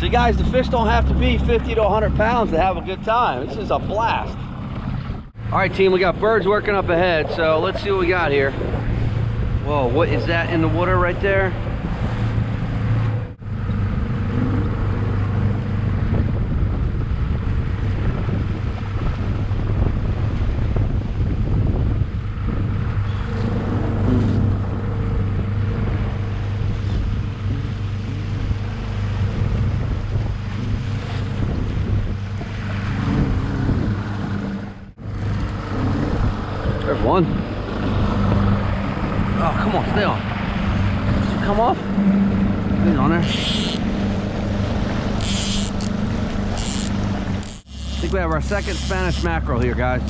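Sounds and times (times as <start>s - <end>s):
outboard motor running: 0.0s - 50.0s
wind: 0.0s - 50.0s.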